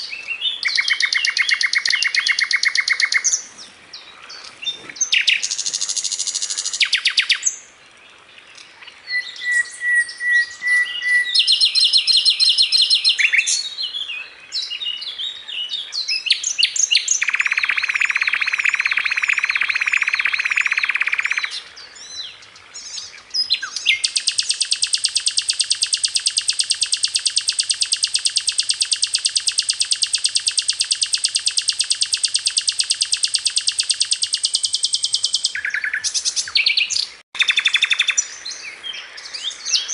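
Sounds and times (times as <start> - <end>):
flycatcher singing chirps and trills: 0.0 - 3.5, 4.4 - 7.6, 9.1 - 15.0, 16.0 - 39.9.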